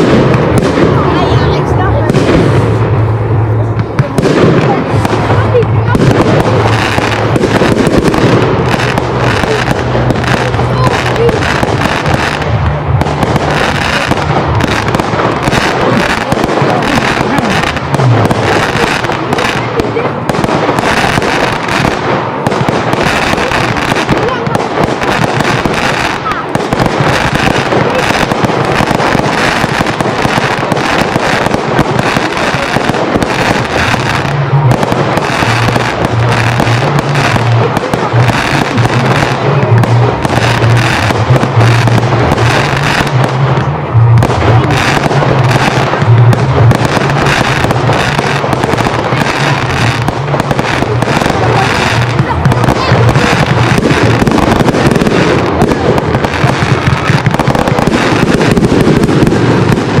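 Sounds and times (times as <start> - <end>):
steady low drone: 0.0 - 24.4, 27.7 - 60.0
fireworks bangs and crackles: 0.0 - 60.0.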